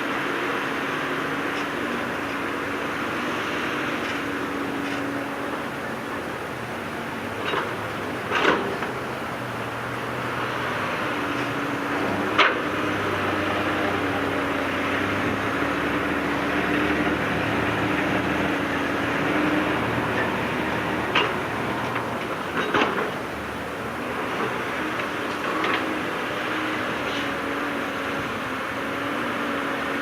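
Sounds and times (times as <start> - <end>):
diesel earthmoving machinery running: 0.0 - 30.0.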